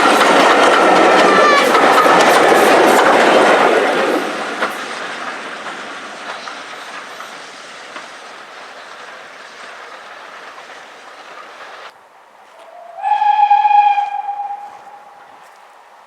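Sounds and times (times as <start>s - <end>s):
wheels clicking over rail joints: 0.0s - 13.3s
train running past: 0.0s - 16.0s.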